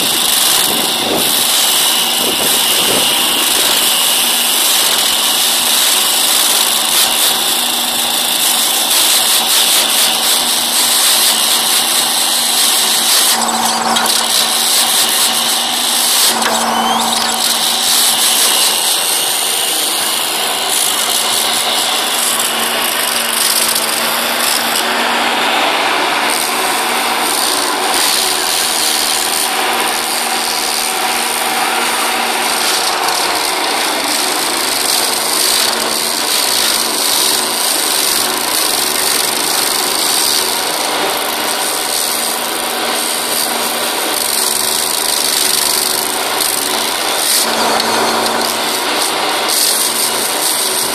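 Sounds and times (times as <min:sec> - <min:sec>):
excavator engine running: 0:00.0 - 0:50.9
stump grinder grinding wood: 0:00.0 - 0:50.9.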